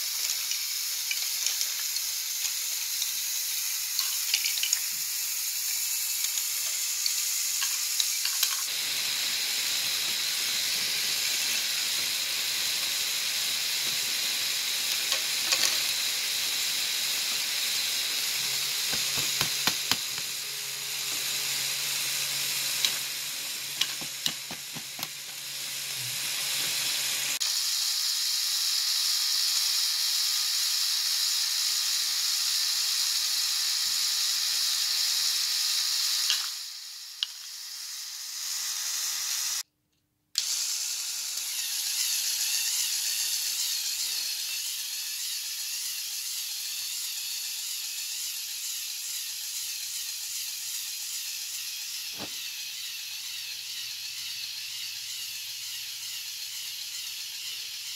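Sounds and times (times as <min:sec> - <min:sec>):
plastic gears whirring: 0:00.0 - 0:39.6, 0:40.4 - 0:57.9.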